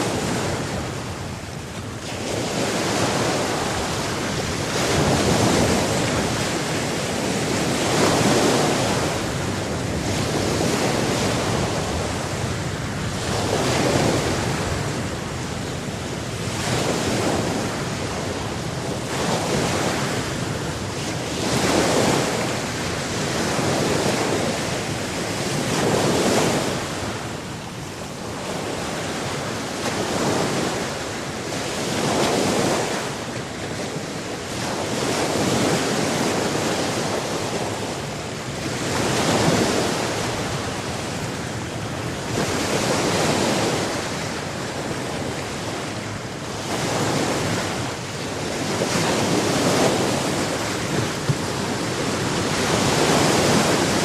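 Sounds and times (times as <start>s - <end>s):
sea waves breaking on shore: 0.0s - 54.0s
wind noise: 0.0s - 54.0s.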